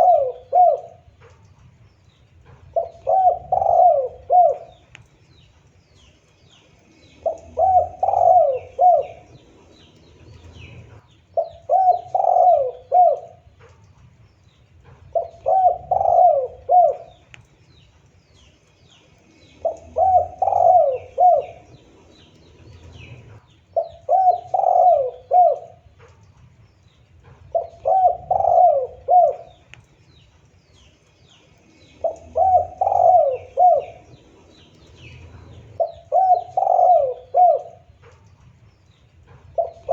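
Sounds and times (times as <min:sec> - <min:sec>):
dove cooing: 0:00.0 - 0:01.4, 0:02.4 - 0:05.0, 0:06.9 - 0:14.1, 0:14.8 - 0:17.4, 0:19.3 - 0:26.5, 0:27.2 - 0:29.8, 0:30.7 - 0:39.9
small birds chirping: 0:00.0 - 0:39.9.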